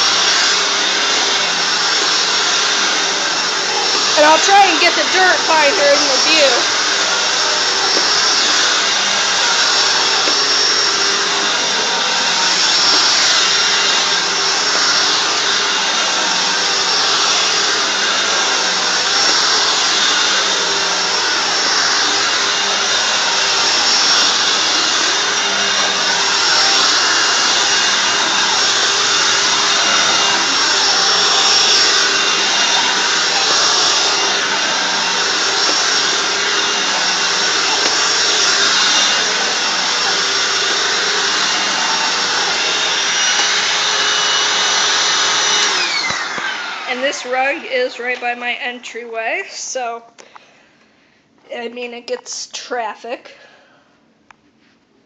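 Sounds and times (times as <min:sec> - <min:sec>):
upright vacuum cleaner whirring: 0:00.0 - 0:48.6.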